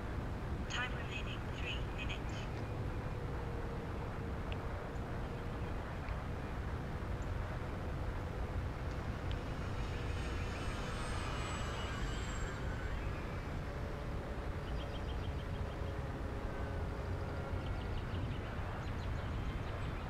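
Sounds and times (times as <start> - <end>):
electric motor and propeller whine: 2.5 - 20.0.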